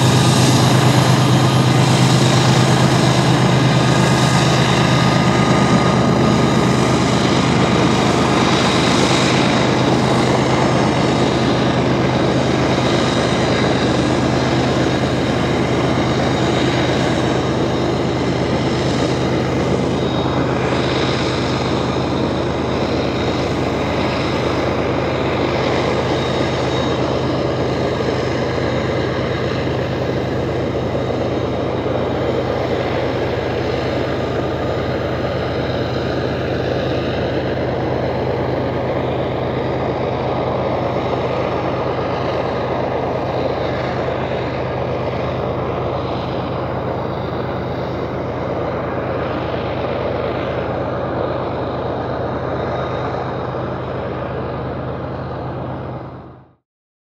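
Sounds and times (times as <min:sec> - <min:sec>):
diesel locomotive engine drone: 0:00.0 - 0:56.6
rail and train car noise: 0:00.0 - 0:56.6.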